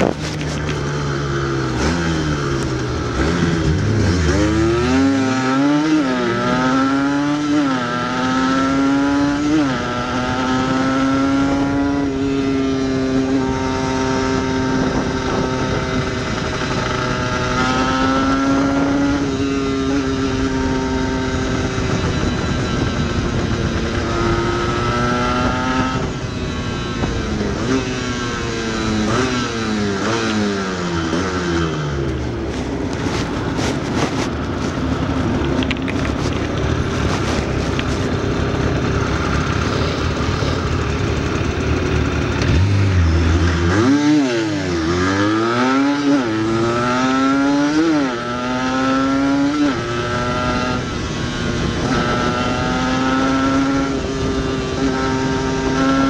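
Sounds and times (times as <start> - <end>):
two-stroke motorcycle engine: 0.0 - 56.0.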